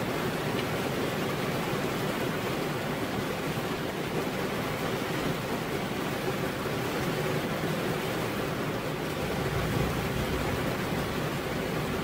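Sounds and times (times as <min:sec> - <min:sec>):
heavy rain on a roof: 0:00.0 - 0:12.0.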